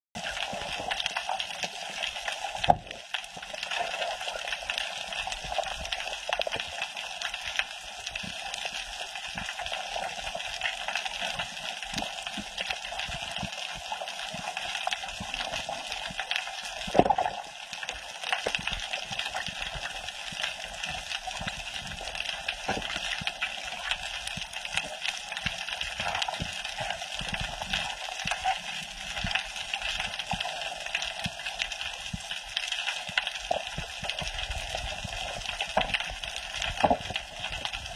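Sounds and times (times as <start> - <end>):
crackling clicks: 0.2 - 37.9
underwater water noise: 0.2 - 37.9.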